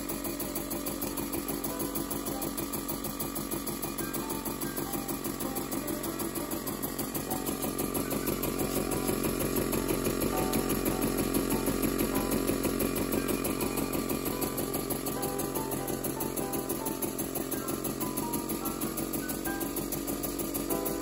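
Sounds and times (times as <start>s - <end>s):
toy steam engine whirring: 0.0s - 21.0s.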